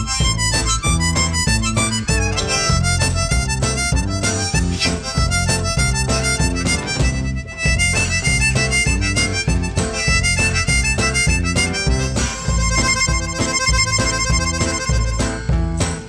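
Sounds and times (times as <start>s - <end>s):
bass guitar: 0.0s - 16.0s
guitar: 0.0s - 16.0s
harmonica: 0.0s - 16.0s
percussion beat: 0.0s - 16.0s.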